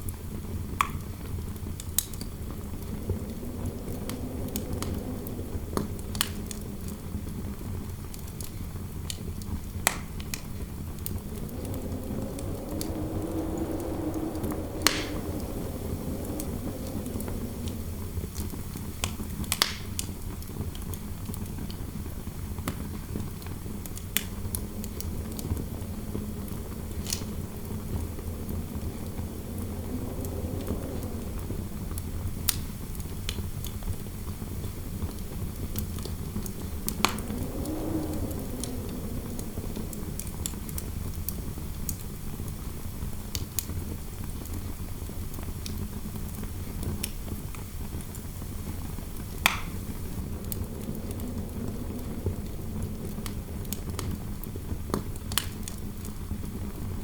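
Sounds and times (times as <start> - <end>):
fireplace fire crackling: 0.0 - 57.0
wind howling softly: 0.0 - 57.0.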